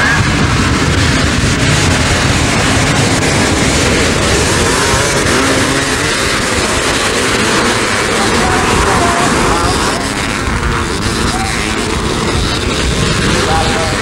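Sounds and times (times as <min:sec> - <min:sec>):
motorcycles revving: 0:00.0 - 0:14.0.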